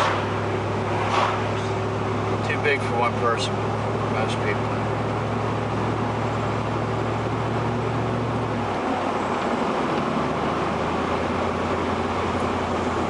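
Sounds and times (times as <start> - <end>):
car engine hum: 0.0 - 13.0
car road noise: 0.0 - 13.0.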